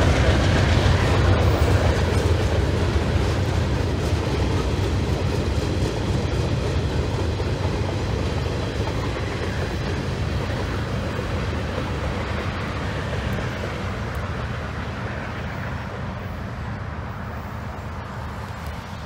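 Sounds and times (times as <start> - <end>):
freight train rolling on rails: 0.0 - 19.0.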